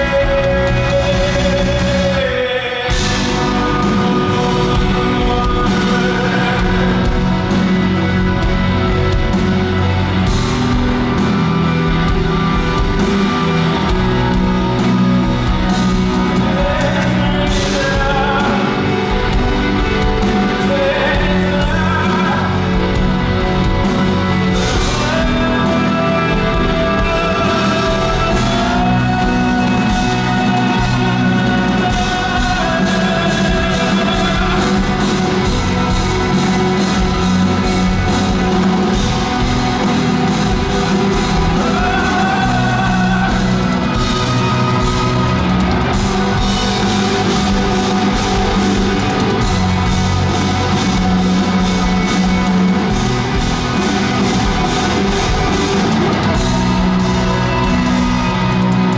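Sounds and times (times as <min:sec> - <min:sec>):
man singing long notes: 0:00.0 - 0:58.9
pop-rock band playing: 0:00.0 - 0:58.9.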